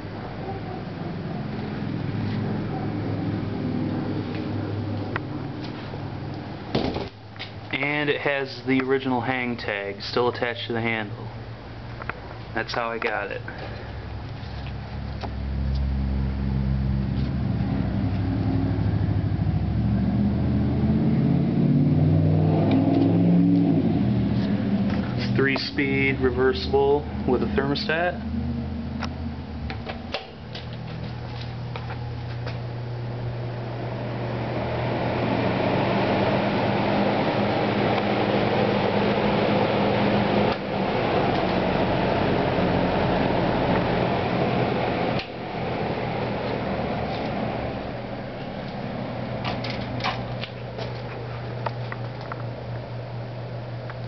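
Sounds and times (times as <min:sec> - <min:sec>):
fan motor humming: 0:00.0 - 0:54.0.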